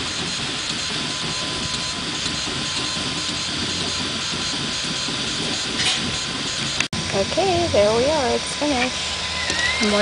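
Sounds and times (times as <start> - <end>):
stepper motors buzzing: 0.0 - 10.0.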